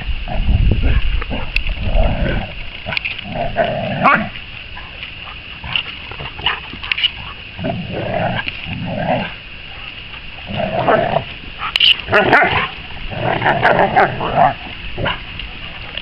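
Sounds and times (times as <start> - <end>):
dogs growling in play: 0.2 - 16.0.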